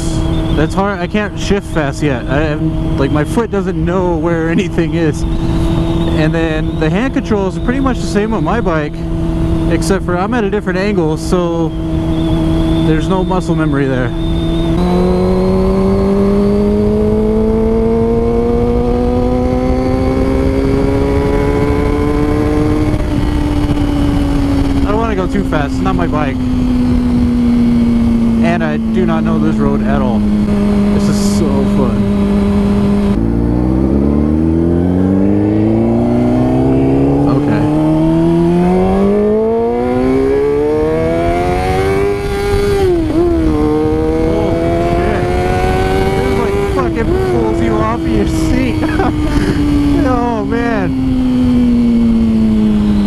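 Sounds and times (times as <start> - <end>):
wind noise: 0.0 - 29.4, 30.1 - 53.0
motorcycle engine pulling under throttle: 0.1 - 53.0.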